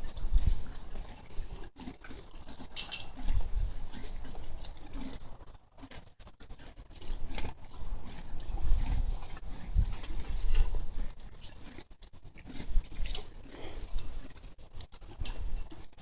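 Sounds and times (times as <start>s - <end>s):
horse chewing feed: 0.0s - 16.0s.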